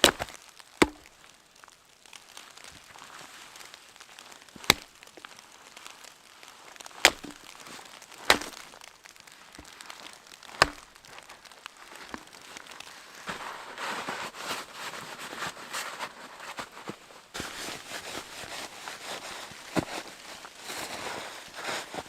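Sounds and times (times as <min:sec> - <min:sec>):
faint crackling: 0:00.0 - 0:22.0.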